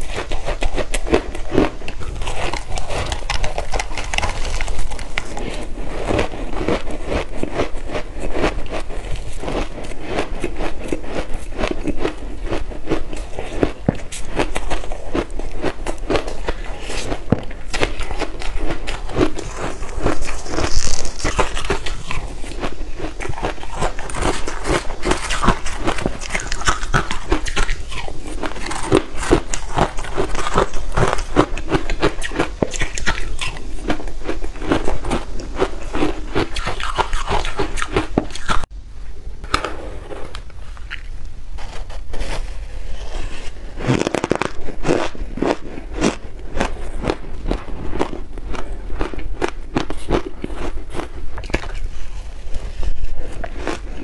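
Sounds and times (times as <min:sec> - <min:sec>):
chewing crunchy ice: 0:00.0 - 0:38.7, 0:40.4 - 0:54.0.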